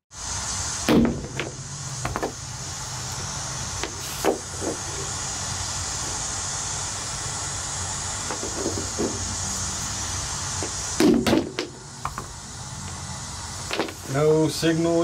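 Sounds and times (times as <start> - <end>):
steady hiss: 0.1 - 15.0.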